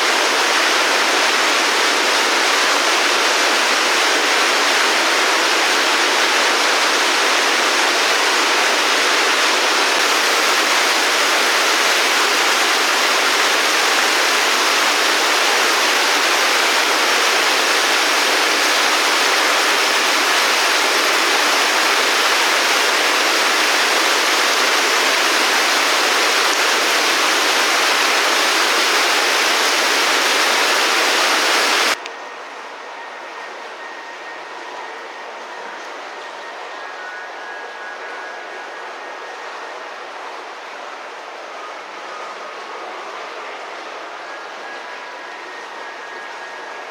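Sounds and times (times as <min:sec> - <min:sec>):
rush of flowing water: 0:00.0 - 0:32.5, 0:35.3 - 0:46.9.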